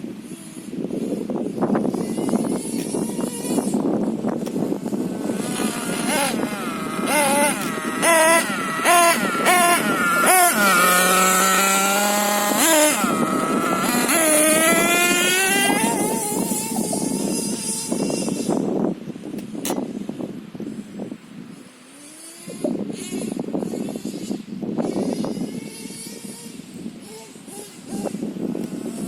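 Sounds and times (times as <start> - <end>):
nitro engine revving: 0.2 - 18.8, 21.9 - 29.0.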